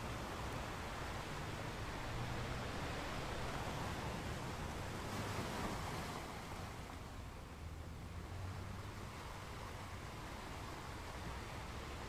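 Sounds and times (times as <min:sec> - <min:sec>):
gentle waves: 0:00.0 - 0:12.0.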